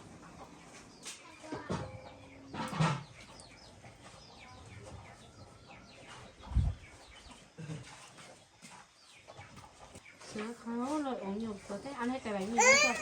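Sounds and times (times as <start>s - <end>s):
small birds chirping: 0.0s - 10.7s, 11.4s - 13.0s.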